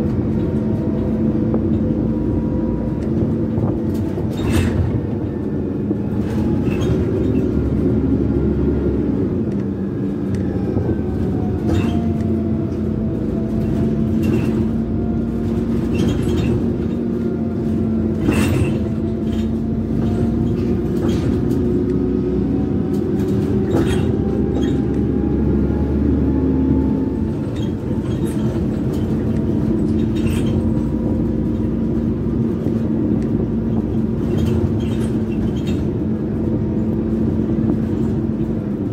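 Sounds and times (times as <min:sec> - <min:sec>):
bus body rattles and knocks: 0:00.0 - 0:38.9
bus engine drone: 0:00.0 - 0:38.9.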